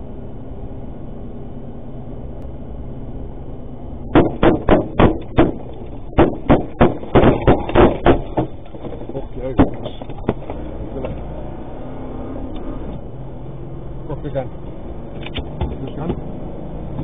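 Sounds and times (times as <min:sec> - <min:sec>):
road and engine noise: 0:00.0 - 0:17.0.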